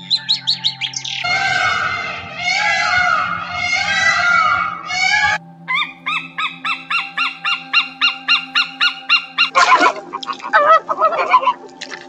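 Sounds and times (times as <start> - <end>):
wavering honking calls: 0.0 - 11.7.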